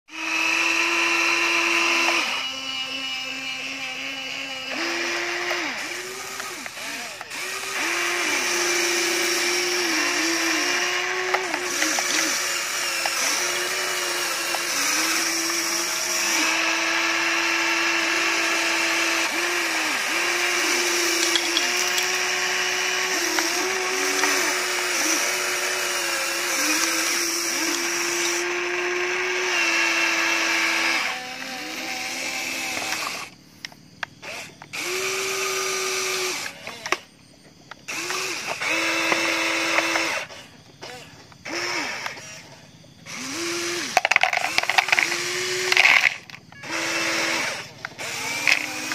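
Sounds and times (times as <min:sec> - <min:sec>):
toy excavator electric motors whining: 0:00.1 - 0:48.9.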